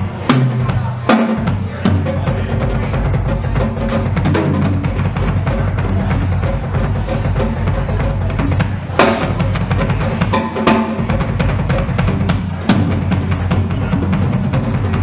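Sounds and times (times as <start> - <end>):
fast bass drum and toms: 0.0 - 15.0.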